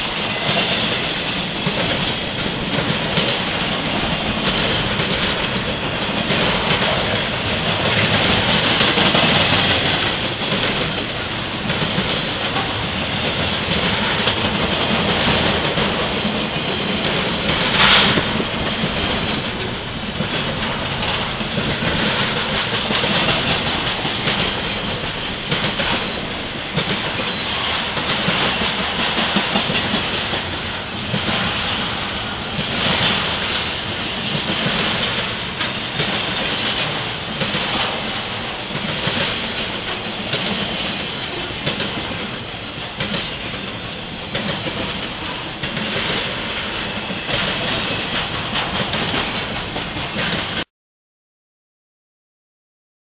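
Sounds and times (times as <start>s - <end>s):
steel wheels rolling on rail: 0.0s - 50.6s
wheels clicking over rail joints: 0.0s - 50.6s.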